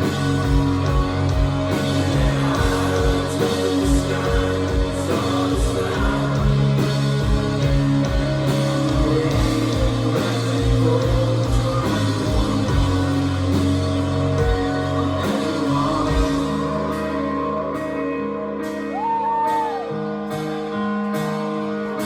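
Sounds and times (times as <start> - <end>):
person singing: 0.0 - 20.0
live rock band playing: 0.0 - 22.0.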